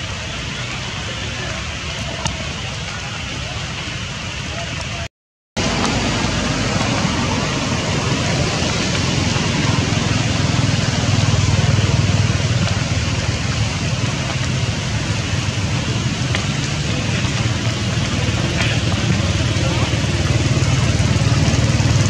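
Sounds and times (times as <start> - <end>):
heavy rain hissing: 0.0 - 22.0
stream running water: 0.0 - 22.0.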